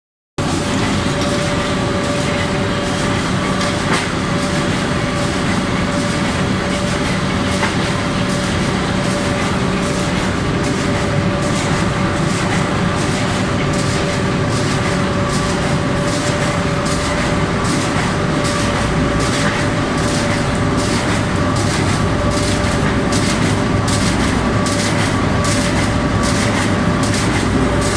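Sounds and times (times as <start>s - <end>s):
constant machine whine: 0.4s - 27.9s
machine mechanical hum: 0.4s - 27.9s.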